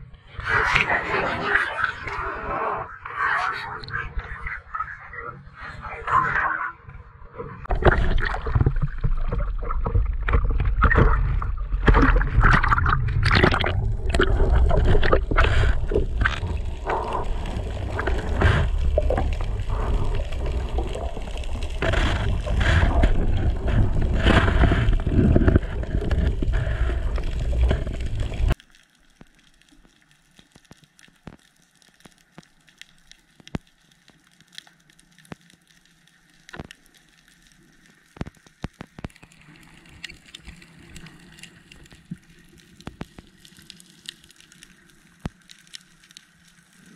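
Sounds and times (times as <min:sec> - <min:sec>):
underwater ambience: 0:00.0 - 0:46.9
faint underwater clicks: 0:07.4 - 0:46.9.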